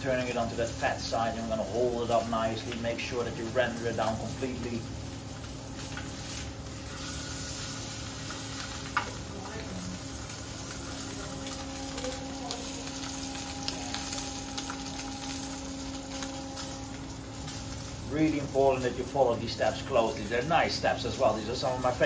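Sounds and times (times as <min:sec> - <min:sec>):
steady hum: 0:00.0 - 0:22.0
steak sizzling in a frying pan: 0:00.0 - 0:22.0.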